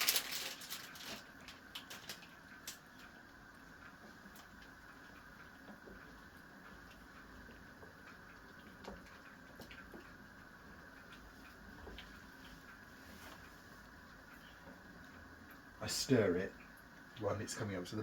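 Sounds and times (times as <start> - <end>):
light clicks and ticks: 0.0 - 18.0
steady low hum: 0.0 - 18.0.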